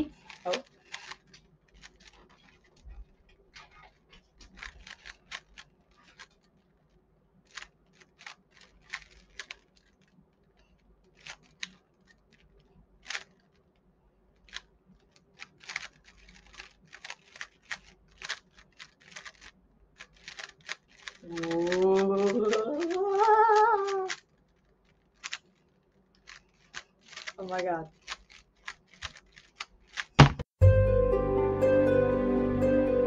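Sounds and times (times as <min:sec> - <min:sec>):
puzzle cube plastic clicks: 0:00.0 - 0:06.6, 0:07.4 - 0:30.4.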